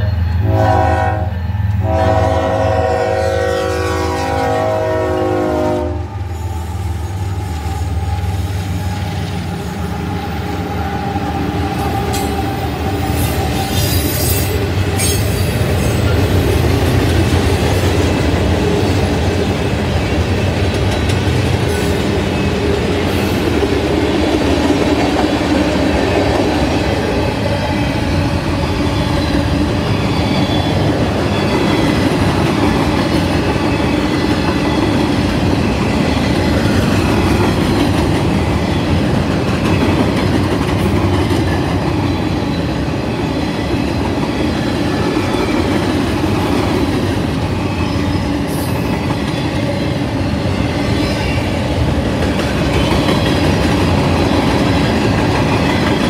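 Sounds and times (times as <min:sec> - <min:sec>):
diesel locomotives rumbling: 0:00.0 - 0:56.0.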